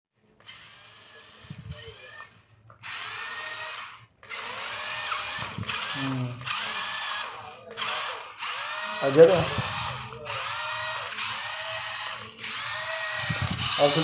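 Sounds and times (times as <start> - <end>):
toy electric motor whirring: 0.4 - 14.0.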